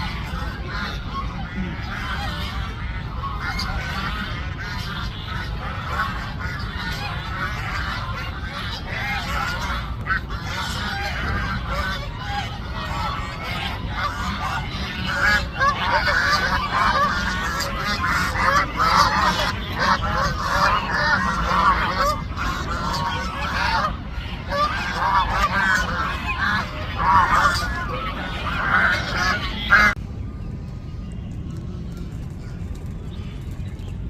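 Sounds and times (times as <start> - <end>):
geese honking: 0.0 - 30.0
low steady rumble: 0.0 - 34.0.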